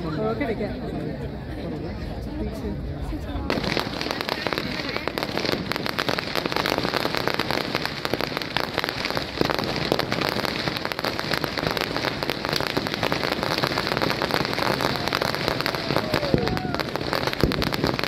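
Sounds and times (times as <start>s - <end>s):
firecrackers crackling: 3.4s - 18.0s
loud firecracker pops: 3.5s - 18.0s.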